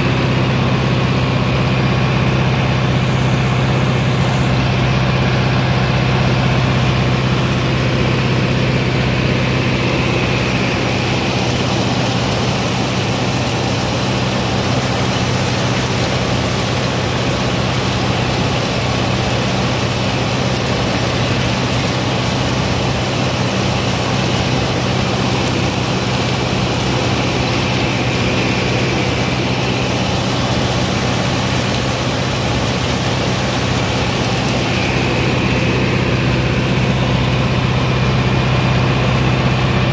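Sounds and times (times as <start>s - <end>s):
corn picker machinery running: 0.0s - 39.9s
tractor engine under load: 0.0s - 39.9s.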